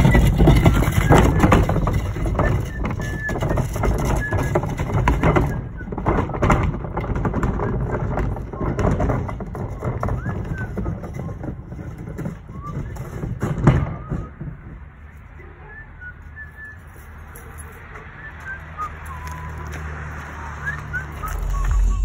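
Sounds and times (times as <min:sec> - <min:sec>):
plastic bin wheels rumbling: 0:00.0 - 0:15.0, 0:18.4 - 0:22.0
footsteps: 0:00.0 - 0:15.4, 0:16.0 - 0:22.0.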